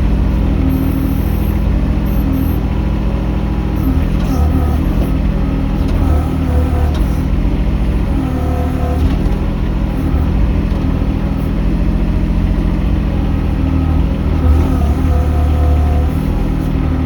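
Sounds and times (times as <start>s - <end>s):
mini excavator engine running: 0.0s - 17.0s.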